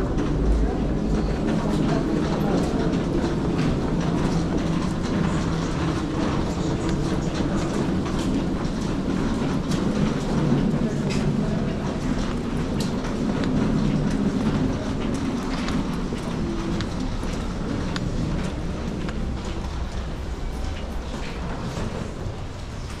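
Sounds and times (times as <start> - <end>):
footsteps clicking: 0.0 - 23.0
subway train rumbling and clattering: 0.0 - 23.0.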